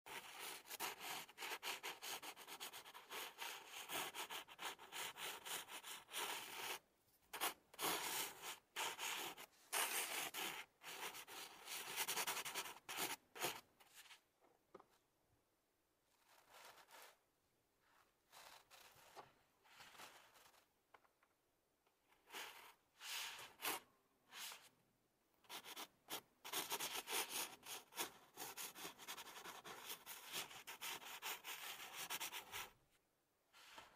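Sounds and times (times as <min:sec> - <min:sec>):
pencil scratching on paper: 0:00.1 - 0:14.2, 0:16.1 - 0:17.2, 0:17.9 - 0:20.7, 0:22.1 - 0:24.7, 0:25.4 - 0:32.8.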